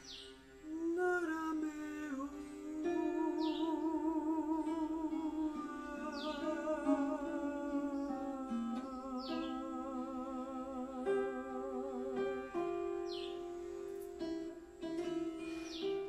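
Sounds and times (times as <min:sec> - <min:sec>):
plucked string instrument: 0:00.0 - 0:16.0
wordless humming with vibrato: 0:00.0 - 0:16.0.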